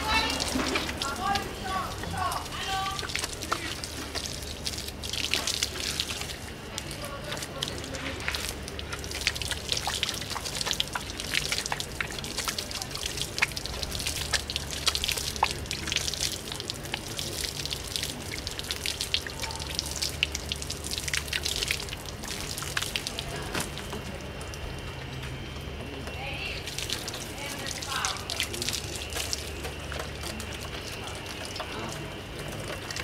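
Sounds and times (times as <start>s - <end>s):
hose water spraying on metal: 0.0s - 25.3s, 26.2s - 33.0s
water dripping: 0.0s - 33.0s.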